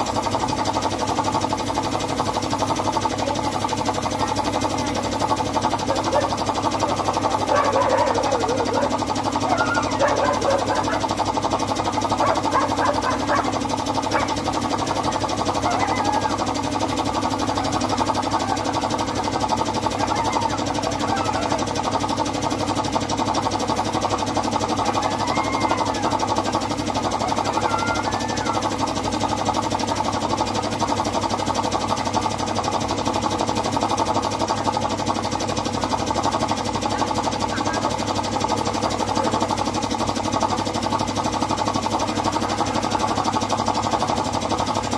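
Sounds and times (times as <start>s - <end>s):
air compressor running: 0.0s - 44.9s.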